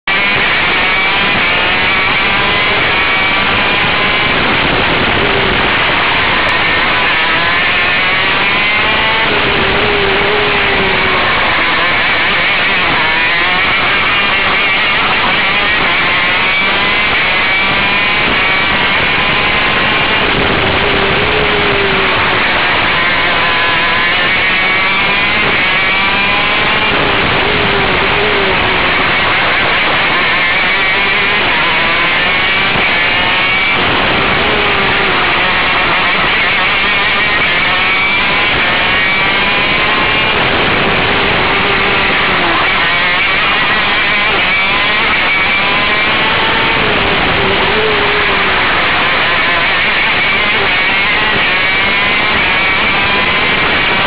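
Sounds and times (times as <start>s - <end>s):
two-stroke kart engine running hard: 0.0s - 54.0s.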